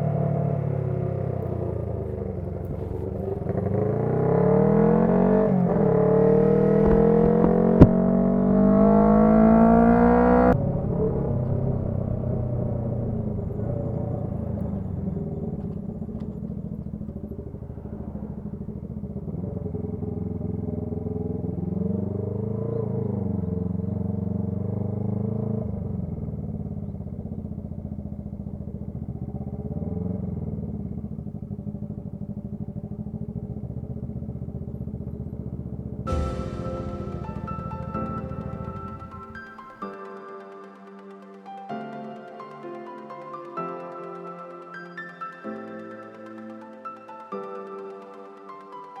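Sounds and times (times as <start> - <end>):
motorcycle engine revving: 0.0 - 39.8.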